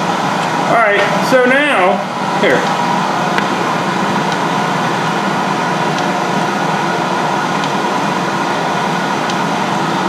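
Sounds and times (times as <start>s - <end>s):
lathe running with loud whir: 0.0s - 10.0s.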